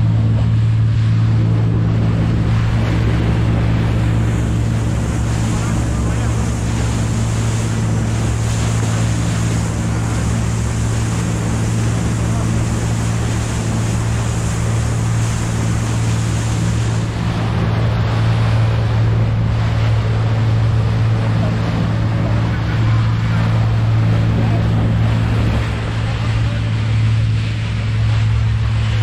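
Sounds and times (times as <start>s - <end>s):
boat engine droning: 0.0s - 29.0s
water hissing along hull: 0.0s - 29.0s
wind on microphone: 0.0s - 29.0s.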